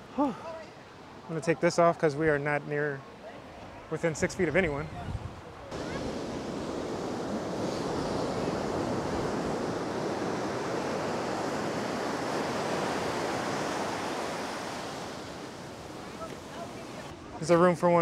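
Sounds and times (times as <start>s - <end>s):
surf on rocky shore: 0.0s - 18.0s.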